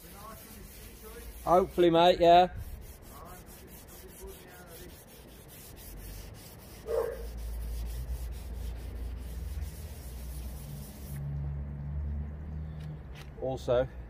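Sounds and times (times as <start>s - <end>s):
sandpaper scrubbing a panel: 0.0s - 11.4s.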